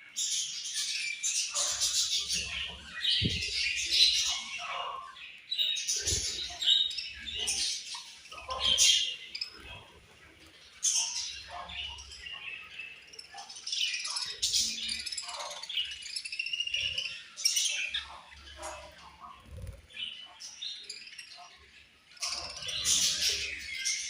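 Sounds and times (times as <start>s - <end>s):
budgerigars chirping and warbling: 0.0s - 24.0s.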